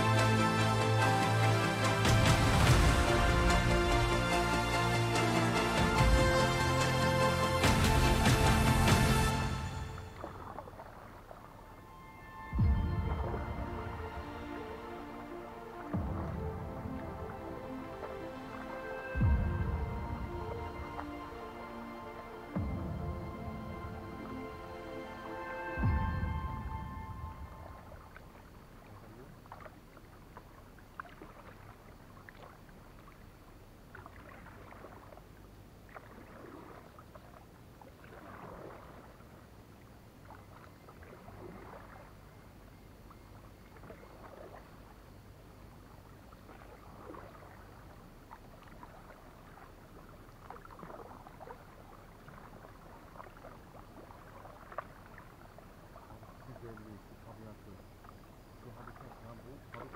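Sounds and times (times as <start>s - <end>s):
paddle splashing in water: 0.0s - 59.9s.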